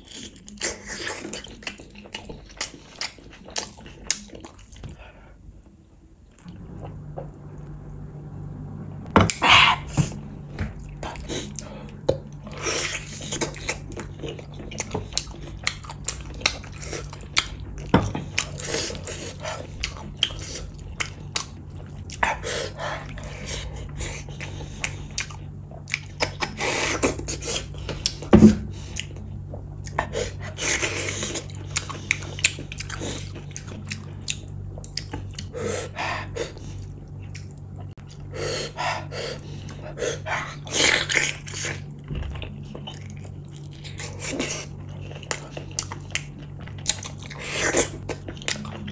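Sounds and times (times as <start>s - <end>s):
person chewing food: 0.0s - 7.3s, 9.3s - 48.9s
steady low hum: 0.0s - 48.9s.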